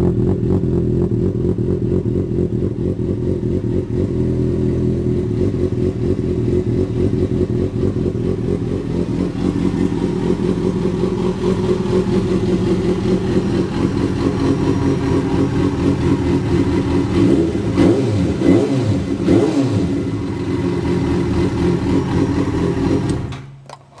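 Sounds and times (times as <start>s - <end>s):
motorcycle engine idling: 0.0s - 23.3s.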